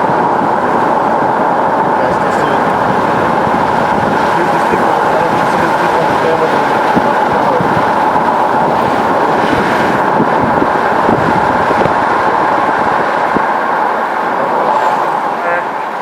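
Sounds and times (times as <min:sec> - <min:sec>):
road and engine noise inside car: 0:00.0 - 0:16.0.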